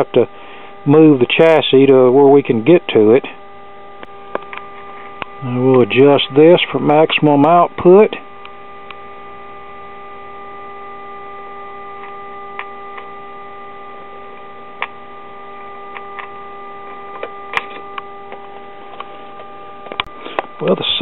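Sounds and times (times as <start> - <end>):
steady tone from radio speaker: 0.0 - 21.0.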